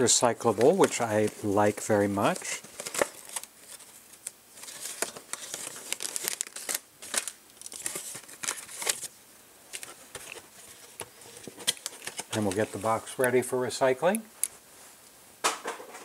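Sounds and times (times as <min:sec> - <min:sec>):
plastic packaging rustling: 0:00.0 - 0:13.3.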